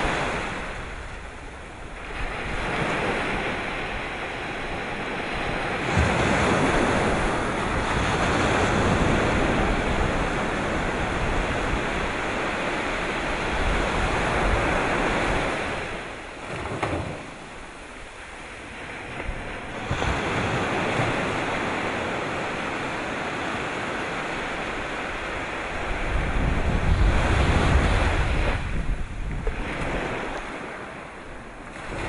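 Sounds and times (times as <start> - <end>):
sea waves breaking: 0.0 - 32.0.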